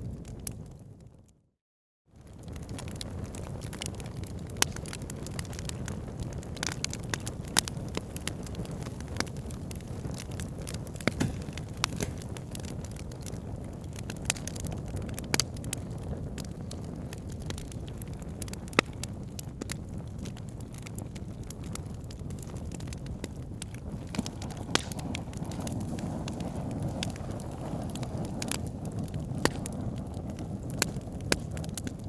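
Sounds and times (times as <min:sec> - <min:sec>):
fire crackling in a fireplace: 0:00.0 - 0:01.4, 0:02.2 - 0:32.0
sharp pops of fire: 0:02.6 - 0:32.0.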